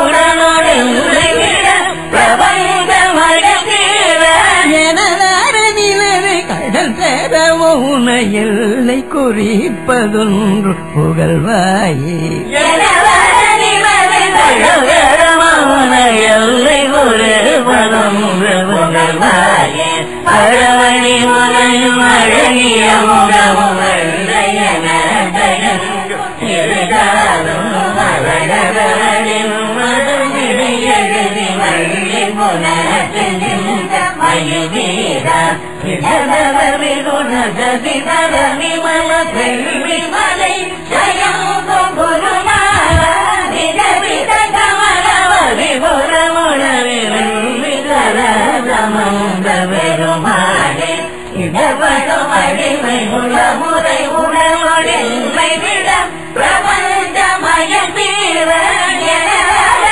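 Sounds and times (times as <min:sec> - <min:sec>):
person singing a devotional hymn: 0:00.0 - 0:59.9.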